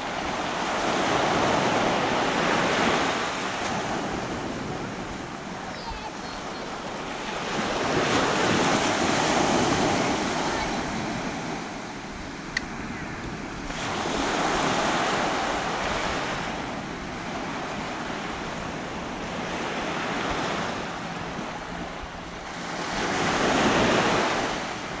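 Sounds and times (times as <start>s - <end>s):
small waves breaking on sand: 0.0s - 25.0s.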